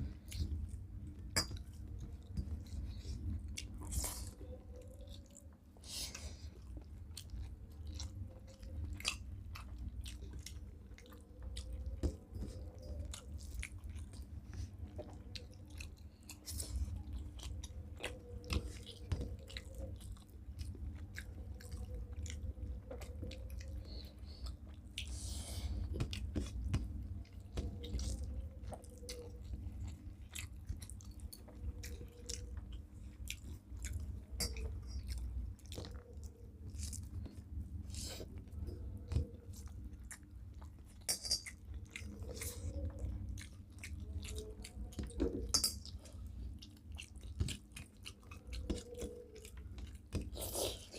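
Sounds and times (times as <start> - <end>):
people chewing food: 0.0 - 50.9
steady low hum: 0.0 - 50.9.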